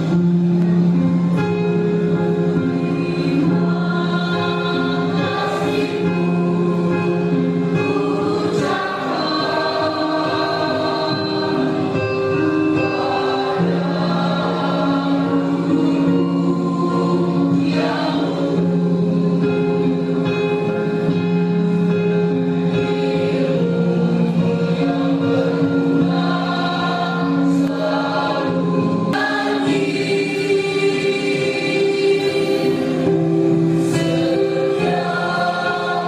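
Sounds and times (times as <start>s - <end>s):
choir singing sustained notes: 0.0s - 36.0s.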